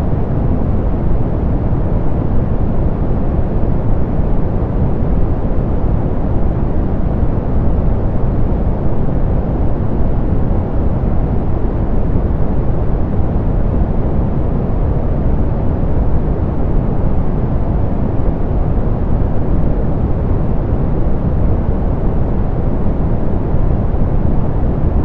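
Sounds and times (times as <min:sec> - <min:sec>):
deep pink noise hiss: 0:00.0 - 0:25.0.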